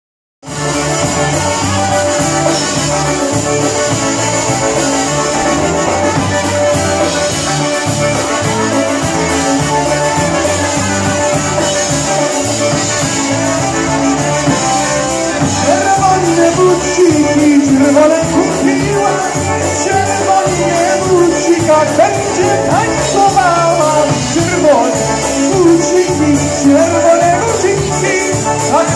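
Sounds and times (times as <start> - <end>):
concertina: 0.4 - 28.9
live band music: 0.4 - 28.9
trumpet: 0.4 - 28.9.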